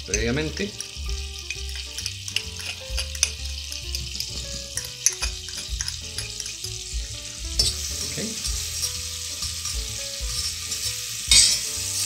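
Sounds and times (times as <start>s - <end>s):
garlic sizzling in butter: 0.0s - 12.0s
metal spoon clicking and scraping: 0.1s - 6.6s, 7.6s - 12.0s.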